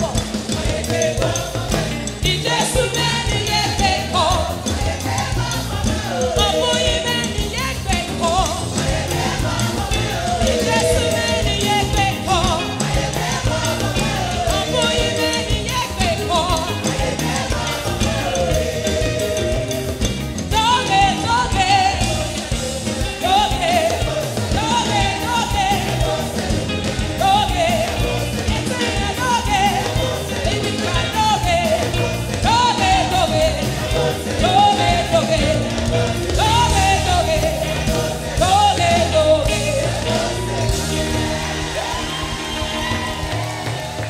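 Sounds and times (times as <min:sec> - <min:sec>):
choir singing praise song: 0:00.0 - 0:44.0
steady bass line: 0:00.0 - 0:44.0.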